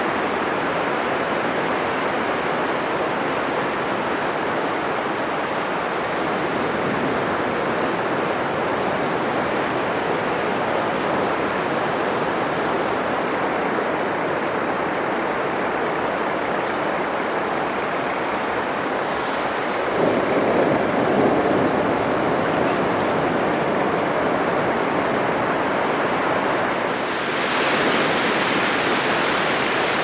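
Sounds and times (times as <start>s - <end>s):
surf washing on beach: 2.2s - 30.0s.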